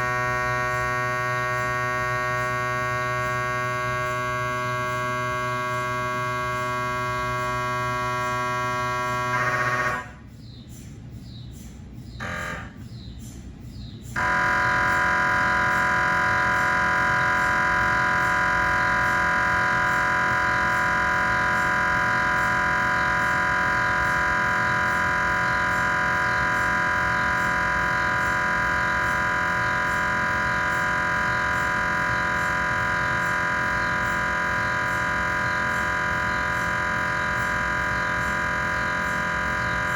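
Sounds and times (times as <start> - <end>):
mri scanner buzzing: 0.0 - 10.3, 12.2 - 12.9, 14.1 - 39.9.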